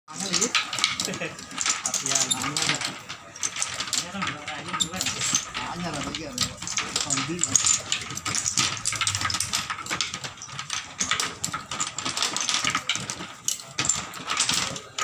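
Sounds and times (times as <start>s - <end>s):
rings clattering on metal stand: 0.1s - 15.0s.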